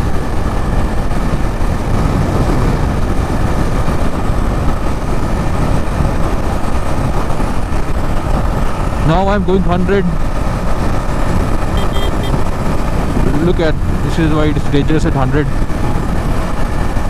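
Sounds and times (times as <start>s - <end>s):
motorcycle engine running: 0.0s - 17.0s
wind roar on microphone: 0.0s - 17.0s.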